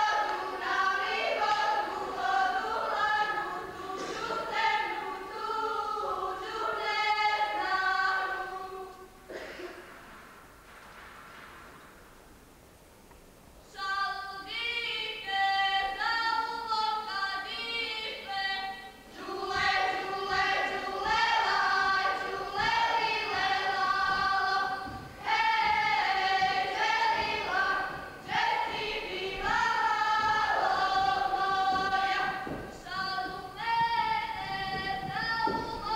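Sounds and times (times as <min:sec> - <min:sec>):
group singing unaccompanied: 0:00.0 - 0:09.6, 0:13.8 - 0:35.9.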